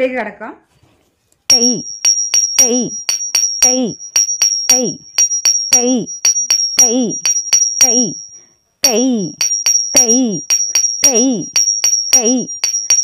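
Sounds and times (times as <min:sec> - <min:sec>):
high ringing tone: 0:01.5 - 0:13.0
sharp clicking percussion strikes: 0:01.5 - 0:13.0.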